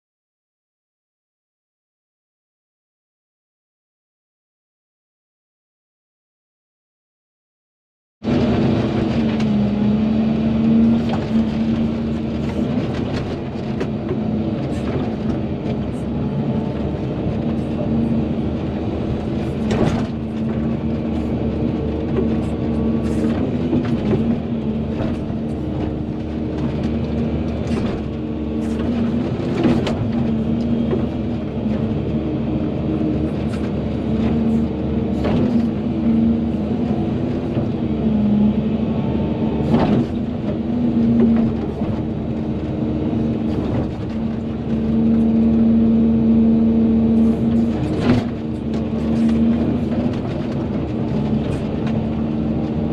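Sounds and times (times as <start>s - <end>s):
excavator diesel engine running: 8.2s - 52.9s.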